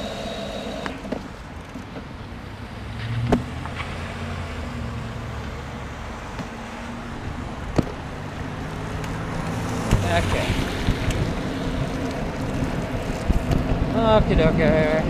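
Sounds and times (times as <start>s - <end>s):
road noise: 0.0s - 15.0s
truck engine humming: 0.0s - 15.0s
wind: 0.0s - 15.0s.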